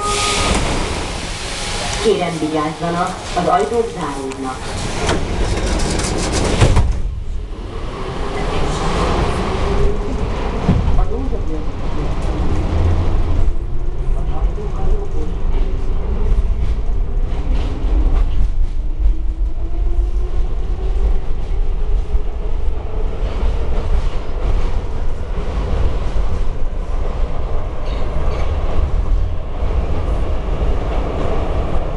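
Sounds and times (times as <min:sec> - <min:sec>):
train wheels rumbling on rails: 0:00.0 - 0:31.9.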